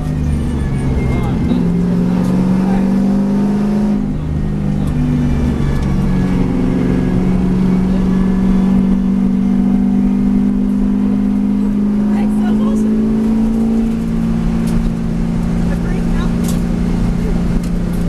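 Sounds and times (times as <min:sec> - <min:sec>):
race car engine running: 0:00.0 - 0:18.0.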